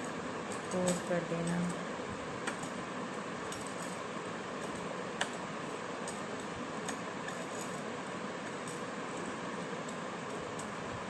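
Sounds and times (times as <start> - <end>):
steady fan-like hiss: 0.0 - 11.0.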